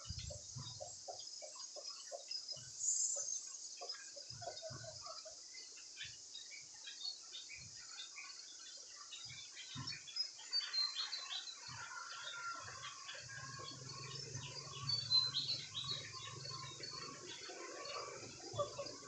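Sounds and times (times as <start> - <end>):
chickens chirping and cheeping: 0.0 - 19.0.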